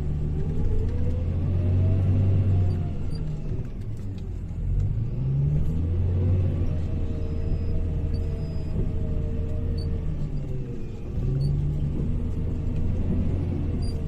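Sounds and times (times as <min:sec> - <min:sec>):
wheel loader diesel engine revving: 0:00.0 - 0:14.0.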